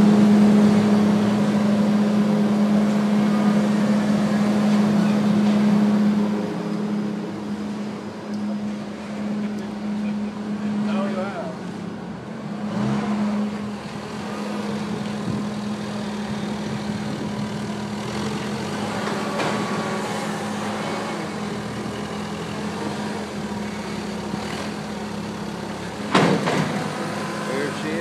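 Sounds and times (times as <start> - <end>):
vehicle engine idling: 0.0 - 12.6, 13.2 - 28.0.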